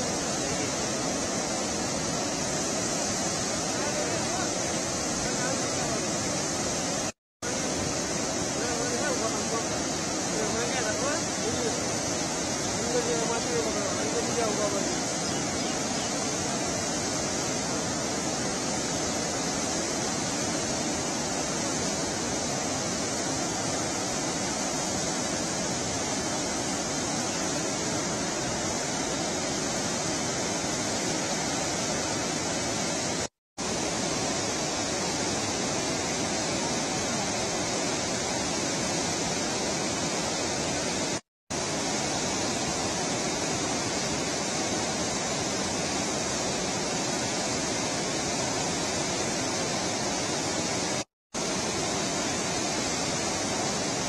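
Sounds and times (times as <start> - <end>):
water roaring through spillway: 0.0 - 54.0.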